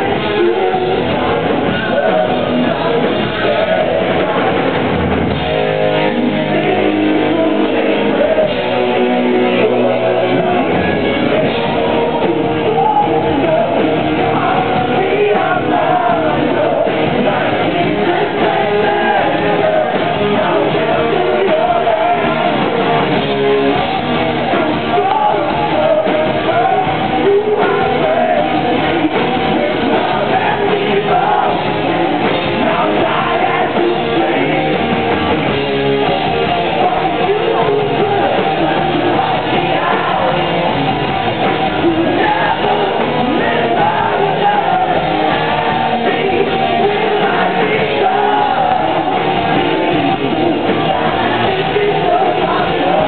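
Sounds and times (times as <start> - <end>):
person singing: 0.0 - 4.9, 5.8 - 53.0
rock band playing live: 0.0 - 53.0.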